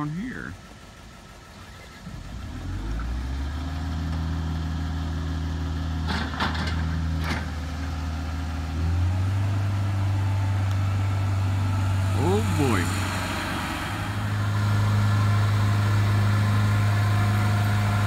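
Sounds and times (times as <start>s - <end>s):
heavy engine idling and revving: 0.0s - 18.0s.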